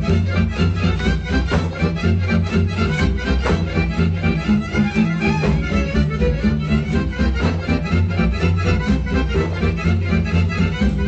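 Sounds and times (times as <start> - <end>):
lively folk dance music: 0.0 - 11.0
pulsing bass beat: 0.0 - 11.0.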